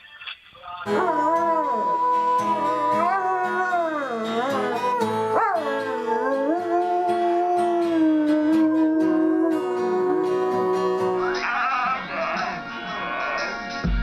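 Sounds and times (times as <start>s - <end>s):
music: 0.8s - 14.0s
dog howling: 0.9s - 12.5s.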